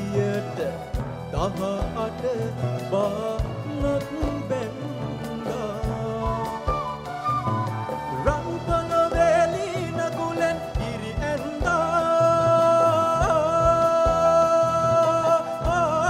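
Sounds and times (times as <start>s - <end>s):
steady drum beats: 0.0s - 16.0s.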